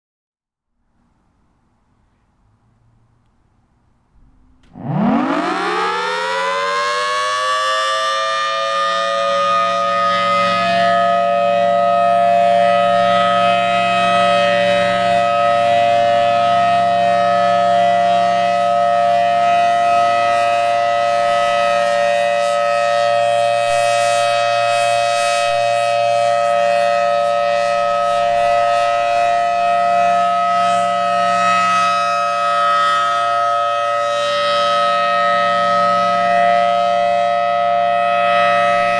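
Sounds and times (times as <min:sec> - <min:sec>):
warning siren winding up: 0:04.3 - 0:38.9.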